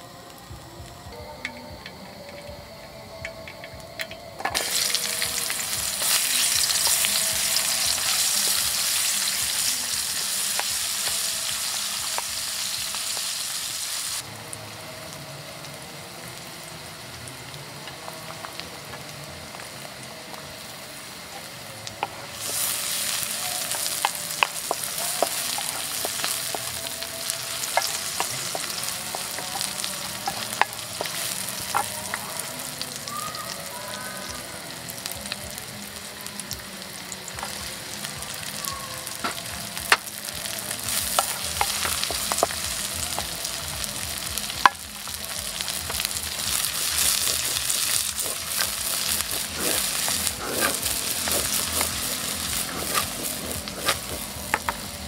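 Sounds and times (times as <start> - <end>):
onion sizzling in oil: 3.6 - 55.0.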